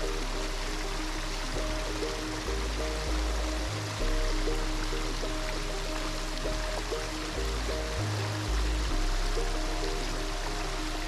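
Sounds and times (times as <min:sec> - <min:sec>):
melody over low bass line: 0:00.0 - 0:11.0.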